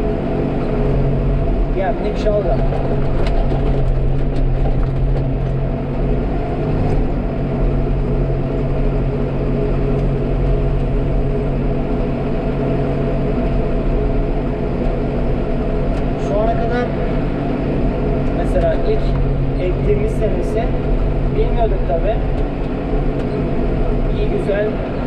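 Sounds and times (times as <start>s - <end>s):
tractor engine running under load: 0.0s - 25.0s.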